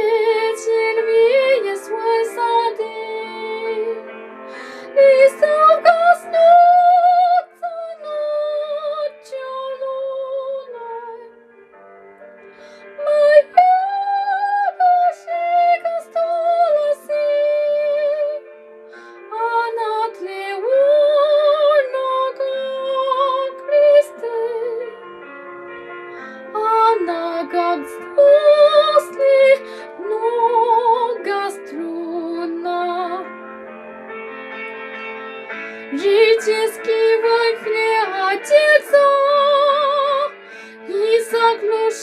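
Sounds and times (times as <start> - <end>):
woman singing with vibrato: 0.0 - 4.0, 4.8 - 11.3, 13.0 - 18.4, 19.3 - 25.0, 26.5 - 33.3, 35.9 - 42.0
soft sustained accompaniment: 0.0 - 42.0.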